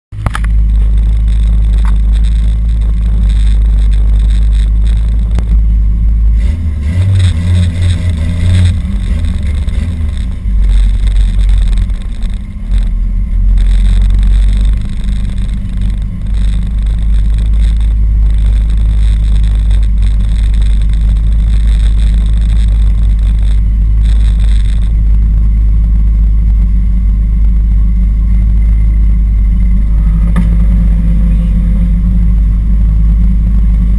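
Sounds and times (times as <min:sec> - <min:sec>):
deep rumble: 0:00.0 - 0:33.9
car engine revving: 0:00.1 - 0:33.9.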